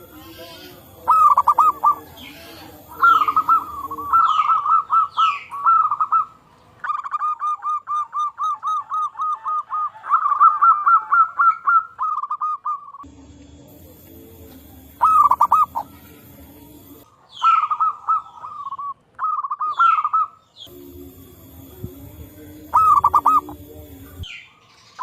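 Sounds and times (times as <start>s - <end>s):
doves cooing: 0.0s - 13.0s, 13.7s - 24.3s
bird chirping: 1.0s - 13.0s, 15.0s - 25.0s.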